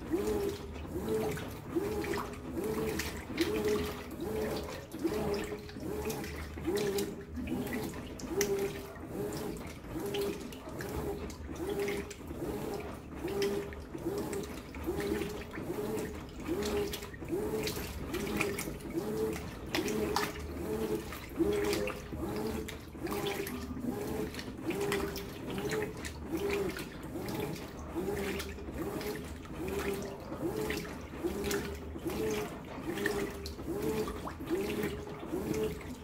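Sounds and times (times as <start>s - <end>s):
washing machine agitating: 0.0s - 36.0s
water sloshing: 0.0s - 36.0s.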